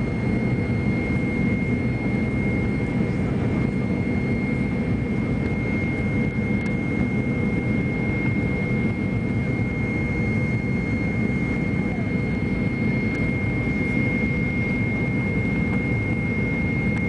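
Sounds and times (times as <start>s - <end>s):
jet engine and airflow noise: 0.0s - 17.0s.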